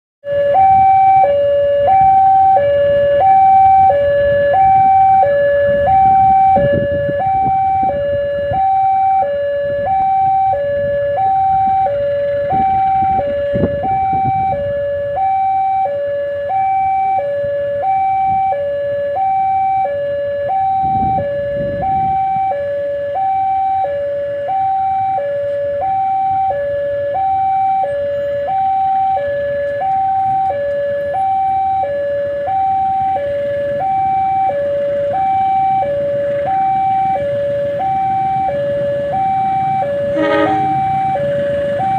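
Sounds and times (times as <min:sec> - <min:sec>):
two-tone railway warning alarm: 0:00.2 - 0:41.9.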